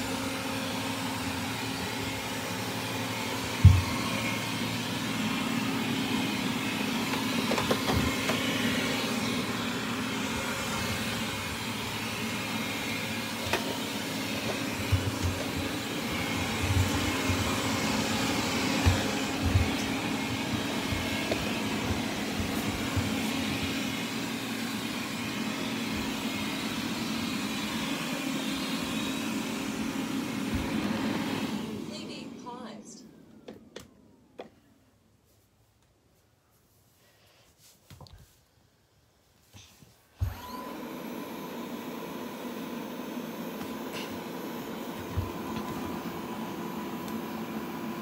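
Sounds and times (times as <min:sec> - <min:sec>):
robot vacuum whirring hum: 0:00.0 - 0:33.8, 0:40.2 - 0:48.0.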